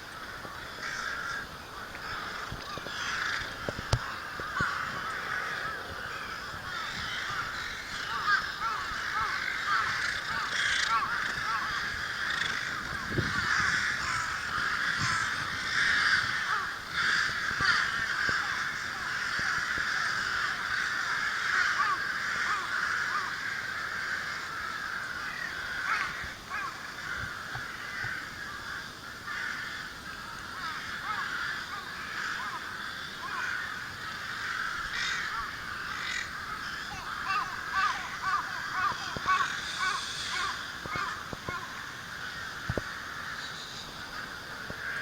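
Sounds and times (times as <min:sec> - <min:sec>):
rooks cawing: 0:00.0 - 0:45.0.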